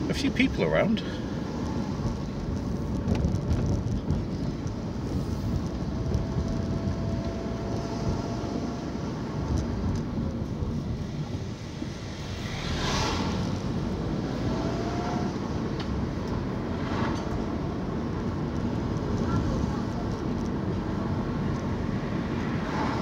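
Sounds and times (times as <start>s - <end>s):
car engine and tyre noise: 0.0s - 23.0s.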